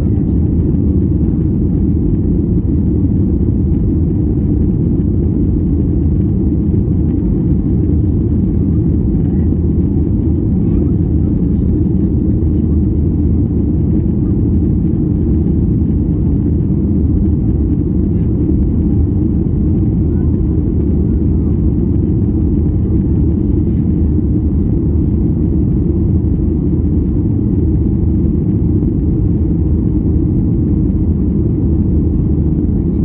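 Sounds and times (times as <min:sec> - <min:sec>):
jet engines roaring: 0:00.0 - 0:33.0.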